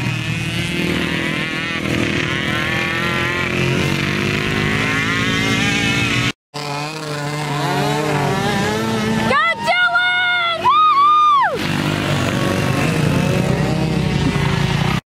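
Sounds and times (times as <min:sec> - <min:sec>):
quad bike engine revving: 0:00.0 - 0:15.0.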